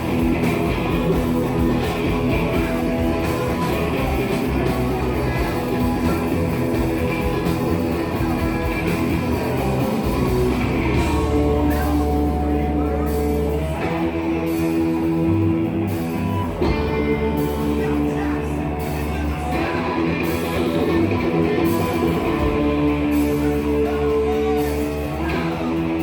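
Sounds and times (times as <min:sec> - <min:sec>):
electric guitars: 0:00.0 - 0:26.0
heavy rock band playing: 0:00.0 - 0:26.0.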